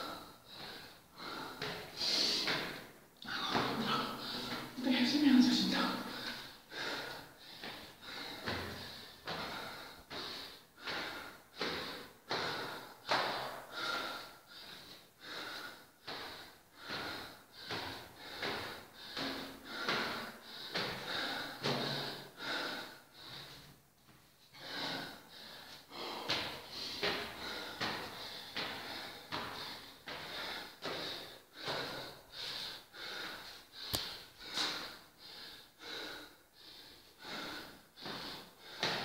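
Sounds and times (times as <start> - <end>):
woman panting: 0.0 - 23.7, 24.5 - 39.0.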